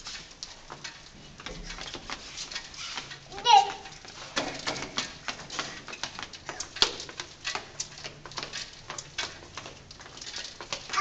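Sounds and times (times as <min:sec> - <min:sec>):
toddler footsteps on hard floor: 0:00.0 - 0:11.0.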